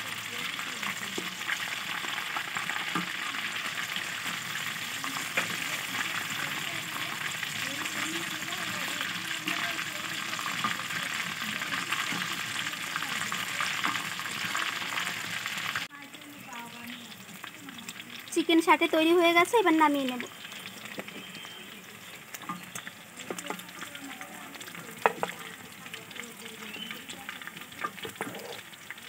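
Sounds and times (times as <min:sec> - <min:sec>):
deep-frying sizzle in hot oil: 0:00.0 - 0:29.0.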